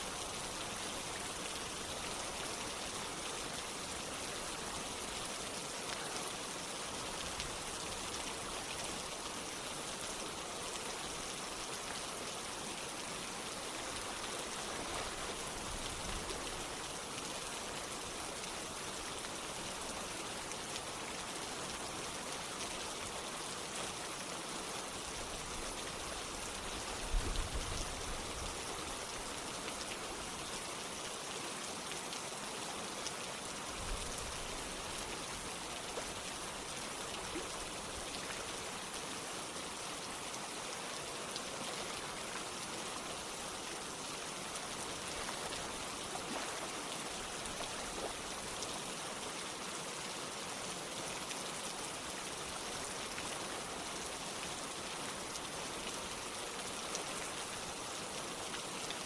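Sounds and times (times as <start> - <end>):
running water: 0.0 - 59.0
steady rain: 0.0 - 59.0.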